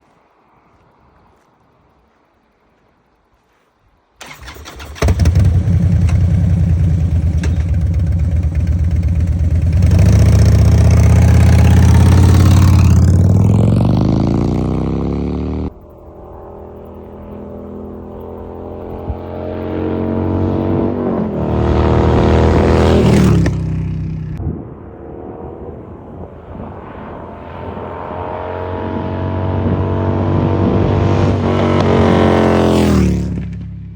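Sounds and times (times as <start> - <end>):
motorcycle engine revving: 4.2 - 25.9, 27.1 - 33.9.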